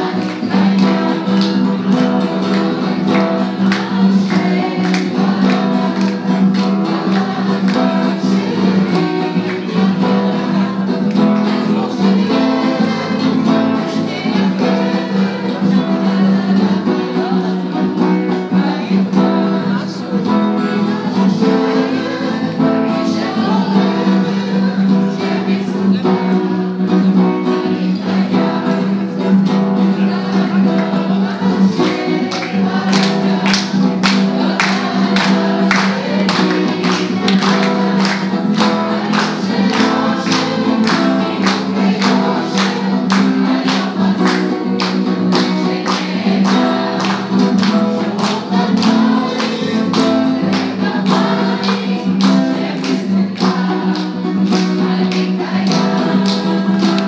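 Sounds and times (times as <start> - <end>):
group singing: 0.0 - 57.0
strummed acoustic guitar: 0.0 - 57.0.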